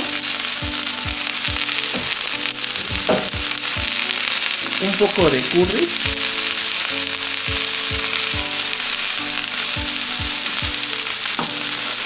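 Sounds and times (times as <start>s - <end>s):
soft background music with beat: 0.0s - 12.0s
vegetables sizzling in a pan: 0.0s - 12.0s.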